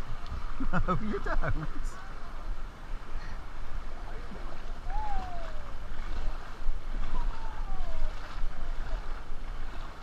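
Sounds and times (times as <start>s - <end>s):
water sloshing and lapping: 0.0s - 10.0s
wind rumbling on microphone: 0.0s - 10.0s.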